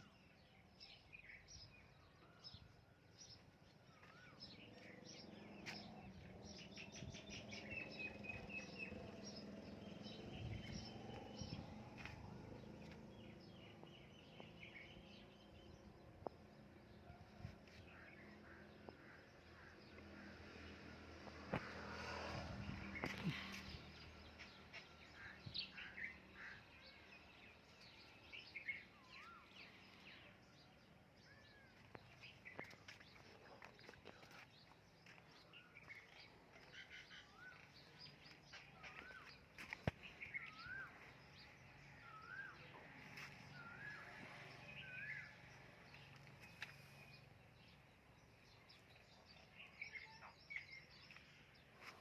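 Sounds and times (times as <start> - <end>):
faint birdsong chirps: 0.0 - 20.7, 21.5 - 52.0.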